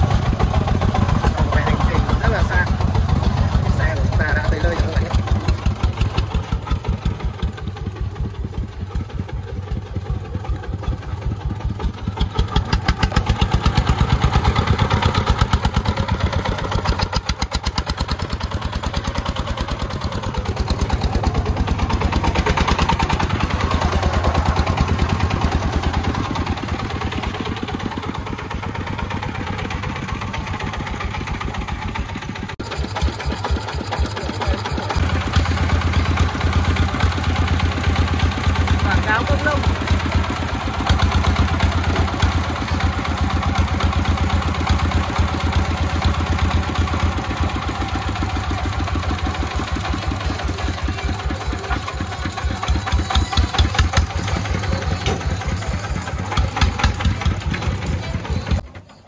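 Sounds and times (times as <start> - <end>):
diesel truck engine chugging: 0.0 - 59.0.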